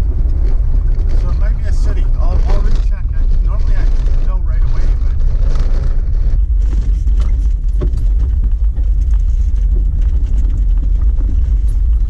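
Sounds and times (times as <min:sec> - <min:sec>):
gravel clicks and rattling: 0:00.0 - 0:12.0
vehicle engine and tyres rumbling: 0:00.0 - 0:12.0.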